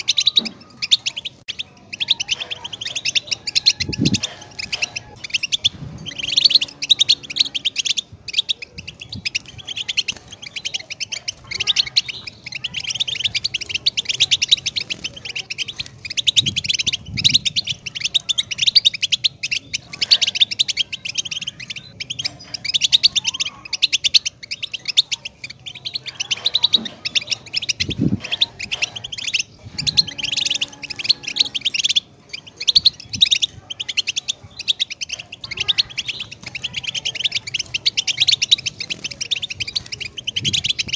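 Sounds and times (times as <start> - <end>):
goldfinch twittering song: 0.0 - 40.9.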